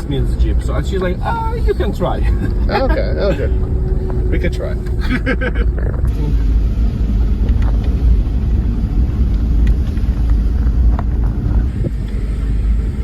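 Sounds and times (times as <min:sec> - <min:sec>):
vehicle rumble from inside cabin: 0:00.0 - 0:13.0.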